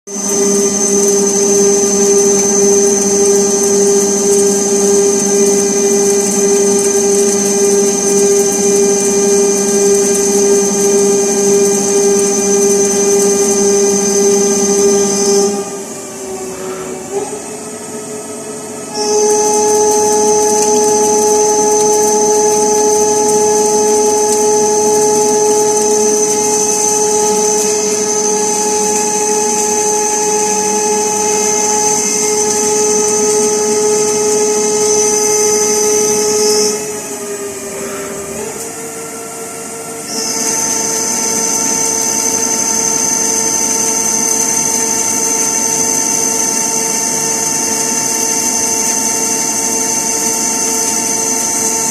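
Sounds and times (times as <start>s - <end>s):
lathe machining whine: 0.1s - 51.9s.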